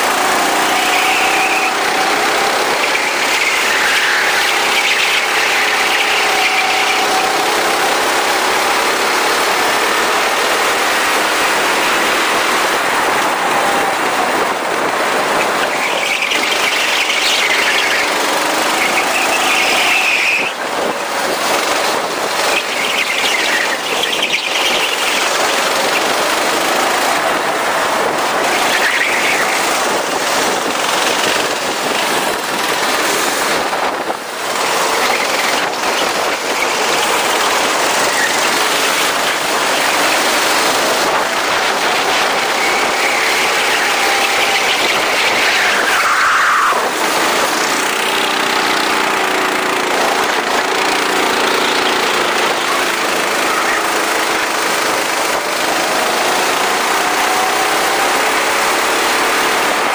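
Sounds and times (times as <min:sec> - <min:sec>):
go-kart engine running: 0:00.0 - 0:59.9
steady rush of noise: 0:00.0 - 0:59.9.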